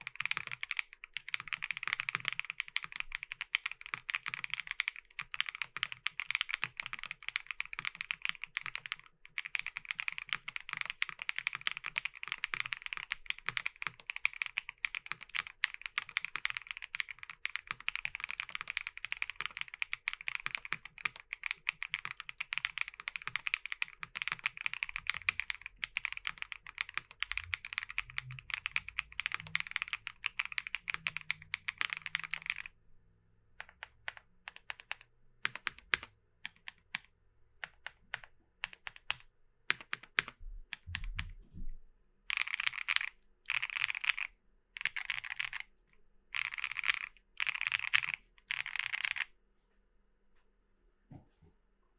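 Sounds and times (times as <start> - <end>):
typing on mechanical keyboard: 0.0 - 32.8, 33.6 - 41.4, 42.3 - 49.3.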